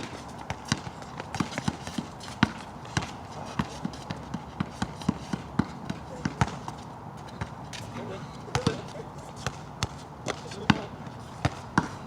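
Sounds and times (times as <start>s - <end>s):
basketball bouncing on wet court: 0.0s - 7.6s, 8.5s - 12.0s.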